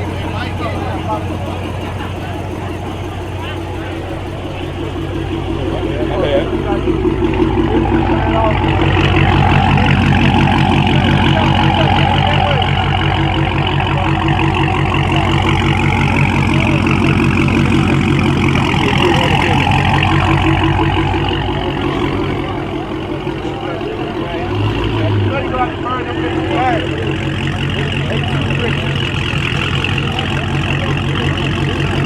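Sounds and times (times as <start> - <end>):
car engine rumbling: 0.0 - 32.0.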